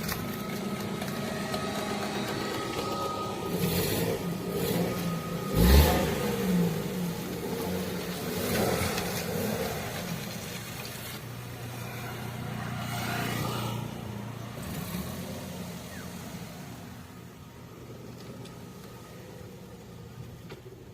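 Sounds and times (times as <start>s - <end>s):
car engine running at low revs: 0.0s - 20.9s.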